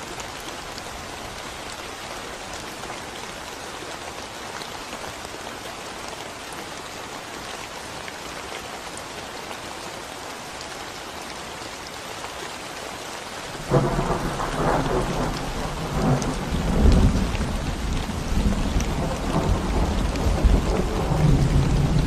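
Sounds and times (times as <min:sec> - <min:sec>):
rain on concrete road: 0:00.0 - 0:22.0.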